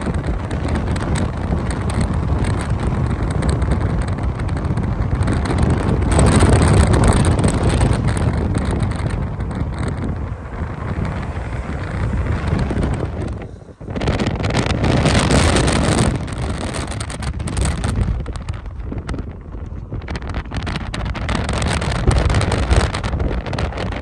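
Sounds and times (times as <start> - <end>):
low rumble: 0.0 - 24.0
wind buffeting microphone: 0.0 - 24.0.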